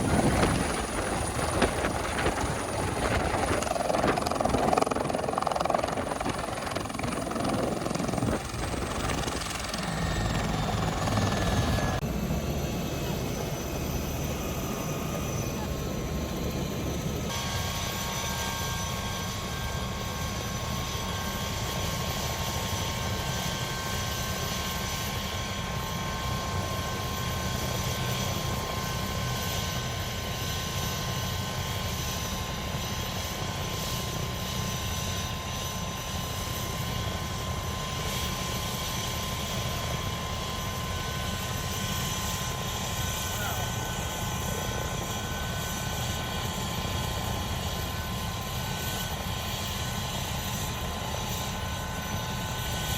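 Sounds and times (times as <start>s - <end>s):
helicopter rotor rumble: 0.0s - 52.9s
turbine whine: 0.0s - 52.9s.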